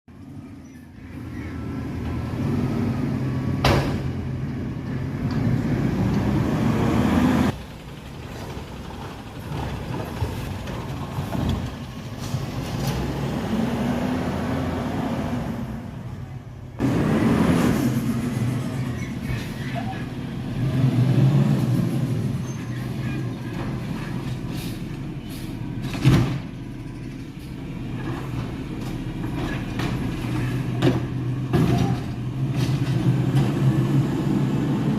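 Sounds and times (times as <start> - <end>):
garbage truck engine running: 0.3 - 13.6, 15.9 - 34.9.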